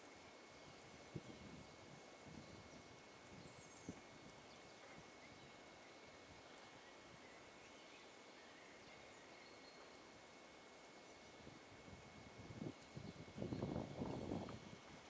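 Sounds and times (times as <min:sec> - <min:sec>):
faint forest hiss: 0:00.0 - 0:15.0.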